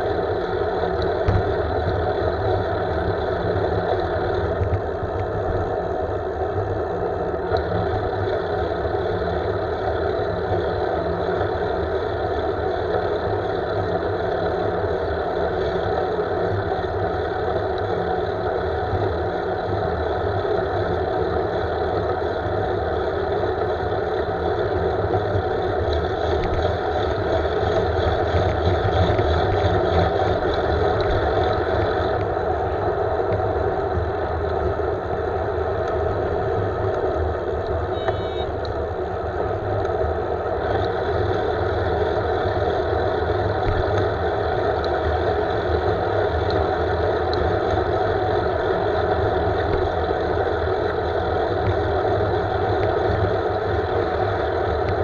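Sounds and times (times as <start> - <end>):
bicycle road noise: 0.0 - 55.0.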